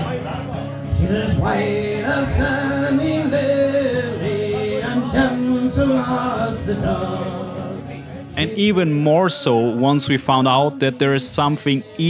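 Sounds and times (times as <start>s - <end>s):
guitar accompaniment: 0.0s - 12.0s
man singing: 0.8s - 12.0s.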